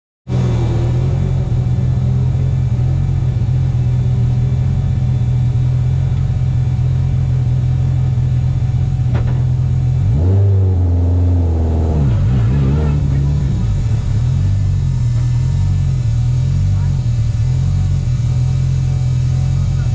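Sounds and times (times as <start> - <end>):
race car engine running: 0.3 - 19.9.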